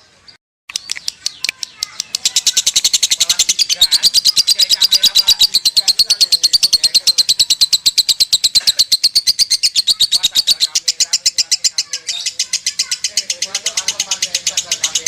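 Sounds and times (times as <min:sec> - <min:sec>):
lovebird chattering song: 0:00.7 - 0:15.0.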